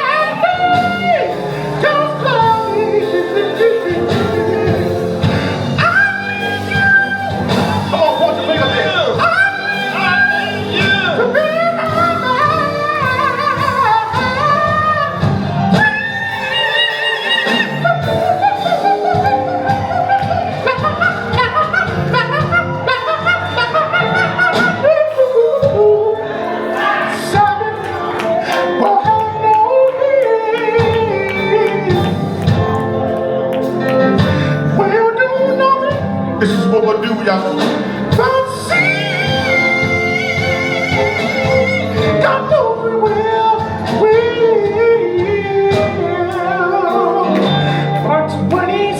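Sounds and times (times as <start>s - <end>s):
gospel music accompaniment: 0.0s - 48.9s
person singing gospel: 0.0s - 48.9s.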